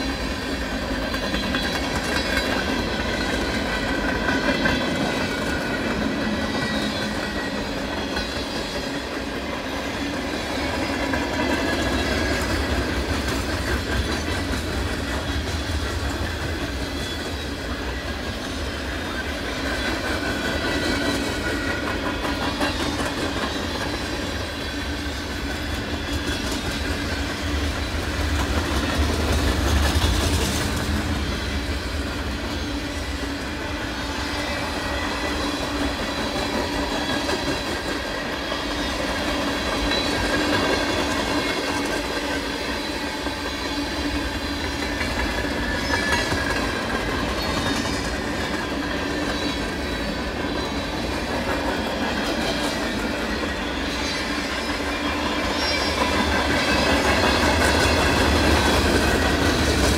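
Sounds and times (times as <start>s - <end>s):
freight train rumble: 0.0s - 59.9s
high squealing wheels: 0.0s - 59.9s
wheels clacking over rail joints: 0.0s - 59.9s.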